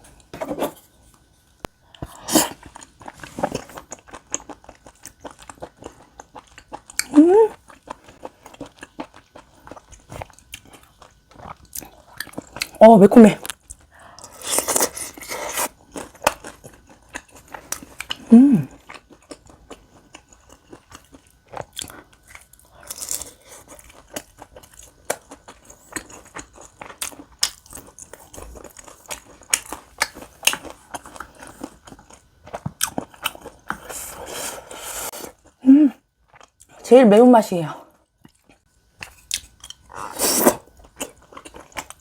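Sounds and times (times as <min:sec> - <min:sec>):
chewing and biting food: 0:02.0 - 0:12.8, 0:13.5 - 0:33.9, 0:38.2 - 0:42.0.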